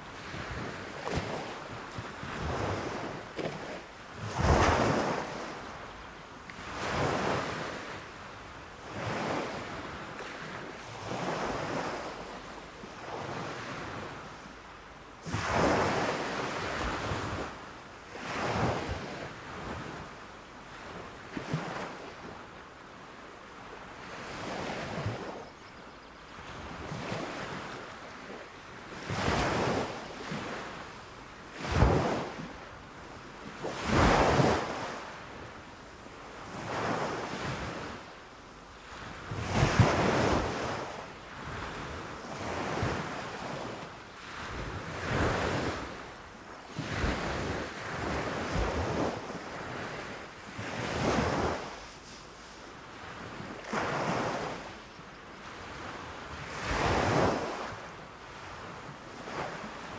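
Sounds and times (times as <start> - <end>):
small waves breaking on sand: 0.0 - 5.8, 6.5 - 14.6, 15.2 - 25.5, 26.3 - 38.1, 38.7 - 59.9.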